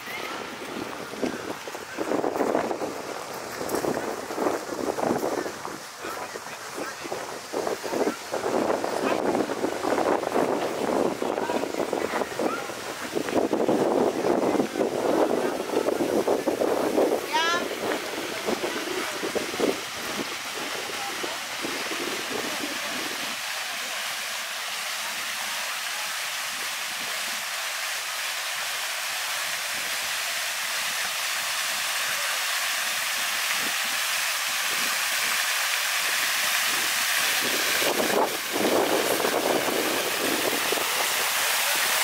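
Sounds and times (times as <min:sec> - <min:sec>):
fountain water splashing: 0:00.0 - 0:42.0.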